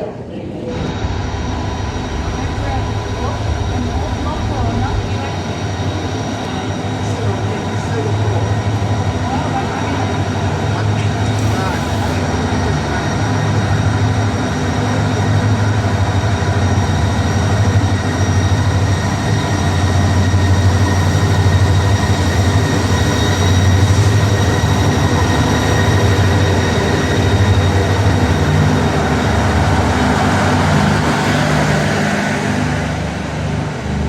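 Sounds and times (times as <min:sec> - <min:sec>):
train rumbling with whine: 0:00.0 - 0:34.0.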